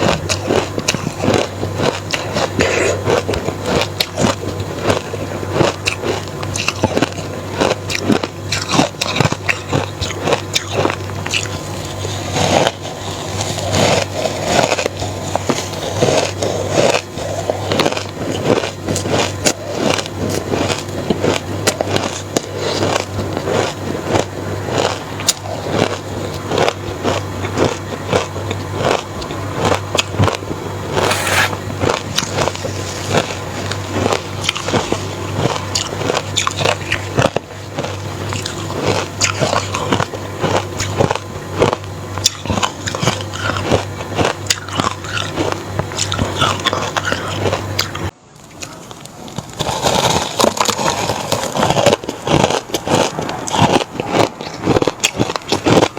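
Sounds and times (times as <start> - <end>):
steady low hum: 0.0 - 49.5
crunching ice chewing: 0.0 - 55.9.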